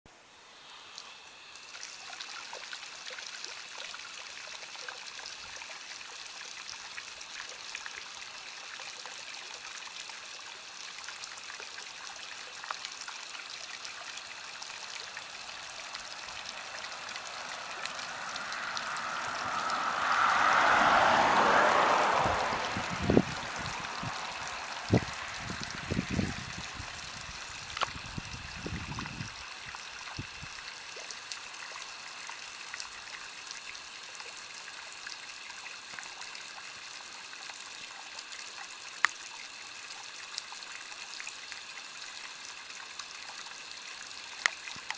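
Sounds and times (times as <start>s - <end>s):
rush of water: 0.7s - 44.9s
water trickling: 0.8s - 44.9s.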